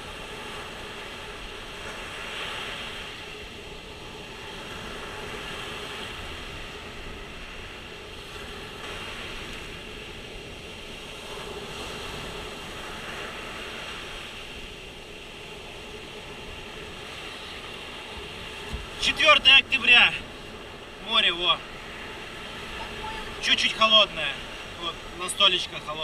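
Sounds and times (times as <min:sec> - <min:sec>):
waves breaking on sand: 0:00.0 - 0:26.0.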